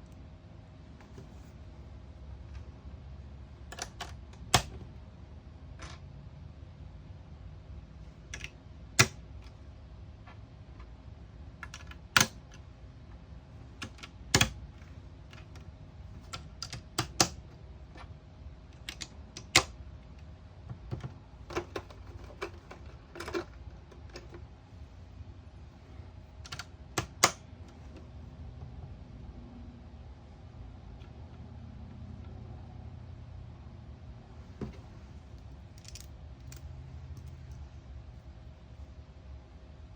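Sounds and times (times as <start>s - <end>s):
faint electronic hum: 0.0s - 39.9s.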